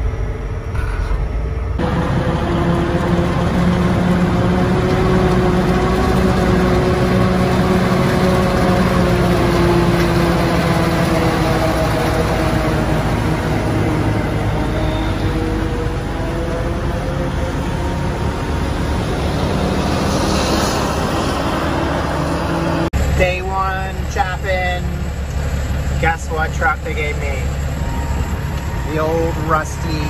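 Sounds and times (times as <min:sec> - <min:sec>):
harvester machine drone: 0:00.0 - 0:30.0.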